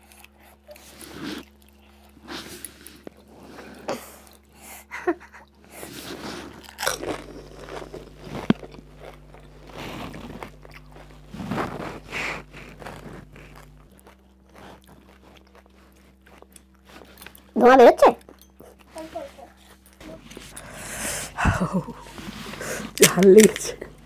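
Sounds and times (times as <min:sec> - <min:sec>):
crunching and chewing: 0:00.0 - 0:24.0.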